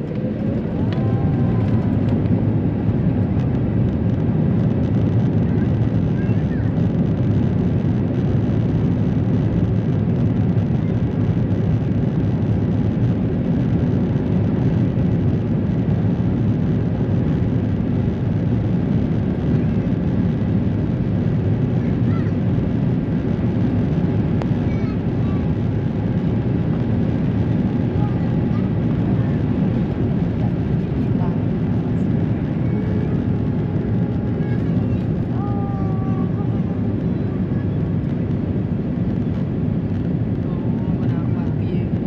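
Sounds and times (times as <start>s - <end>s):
jet engine cabin rumble: 0.0s - 42.0s.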